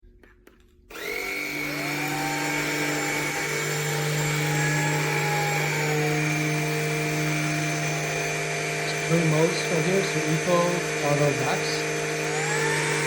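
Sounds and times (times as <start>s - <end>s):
vacuum motor whine: 0.9s - 13.0s.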